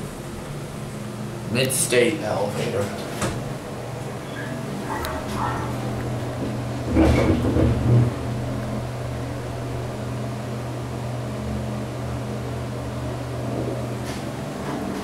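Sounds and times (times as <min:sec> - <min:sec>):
elevator low hum: 0:00.0 - 0:15.0
elevator rumble and knock: 0:02.5 - 0:15.0.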